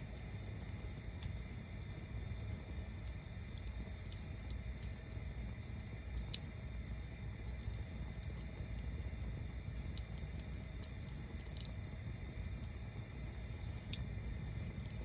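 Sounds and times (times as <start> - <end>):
bonfire flames rumbling: 0.0 - 15.0
fire crackles and pops: 0.0 - 15.0.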